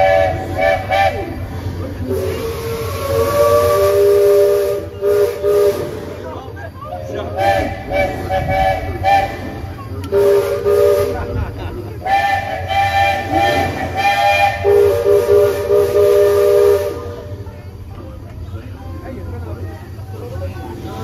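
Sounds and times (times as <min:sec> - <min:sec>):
steam locomotive whistle toots: 0:00.0 - 0:17.5.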